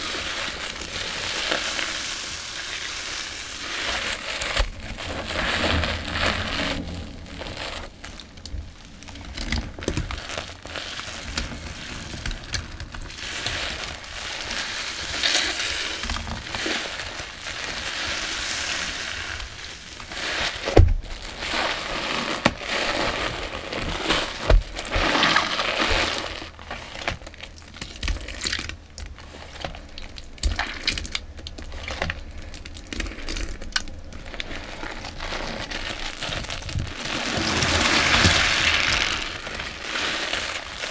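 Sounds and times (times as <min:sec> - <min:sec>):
wet sponge squelching: 0:00.0 - 0:08.8, 0:09.4 - 0:27.1, 0:29.2 - 0:40.9.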